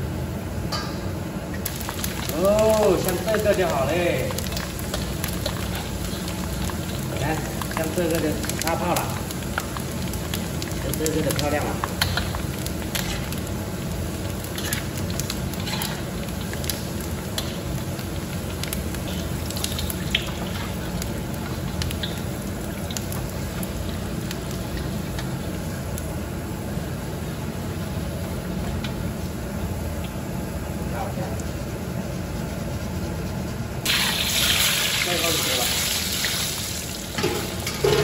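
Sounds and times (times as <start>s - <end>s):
oil sizzling: 0.2s - 38.0s
crackles and pops in hot oil: 0.6s - 26.2s, 28.2s - 29.0s, 33.8s - 38.0s.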